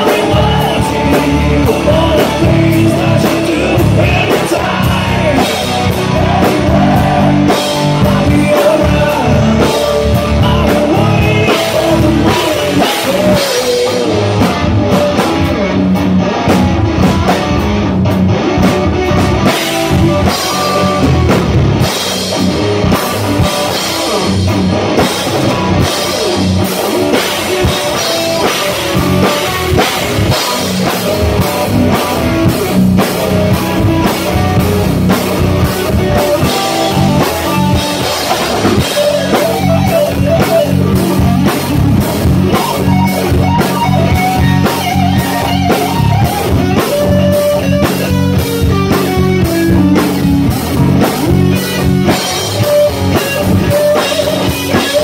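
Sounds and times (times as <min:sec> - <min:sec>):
drum kit beat: 0:00.0 - 0:55.0
electric bass: 0:00.0 - 0:55.0
electric guitars: 0:00.0 - 0:55.0.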